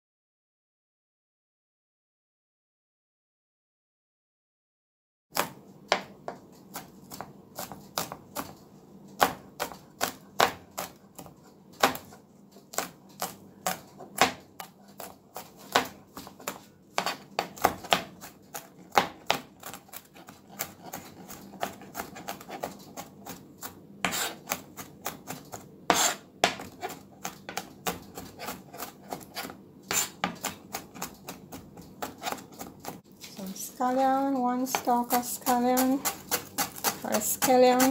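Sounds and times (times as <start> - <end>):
knife chopping on plastic board: 5.4 - 33.0, 34.6 - 37.9.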